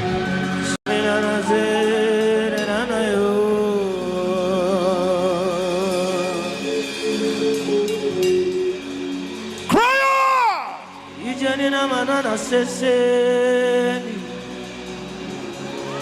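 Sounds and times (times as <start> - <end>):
slow worship music: 0.0 - 16.0.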